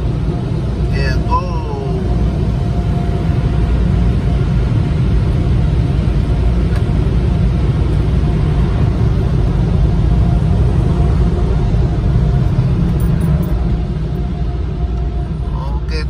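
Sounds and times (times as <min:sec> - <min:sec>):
car wash deep rumble: 0:00.0 - 0:16.0.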